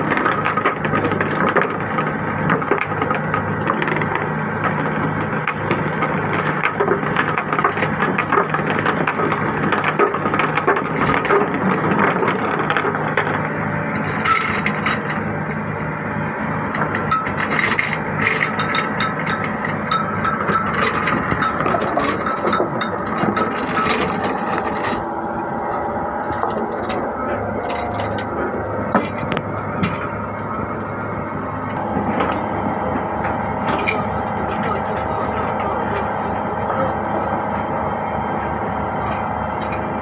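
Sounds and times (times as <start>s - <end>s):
winch and rope rattling: 0.0s - 15.7s, 16.7s - 40.0s
boat engine running: 0.0s - 40.0s.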